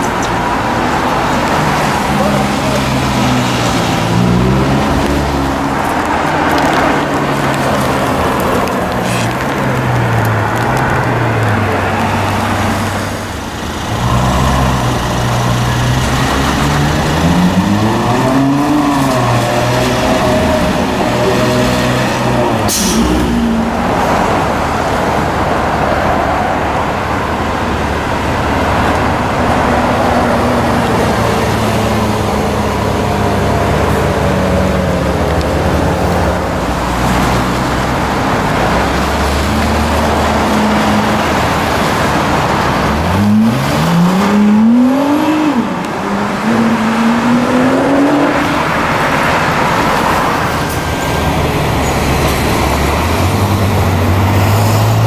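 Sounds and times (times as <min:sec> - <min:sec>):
sports car accelerating: 0:00.0 - 0:55.0
street traffic: 0:00.0 - 0:55.0.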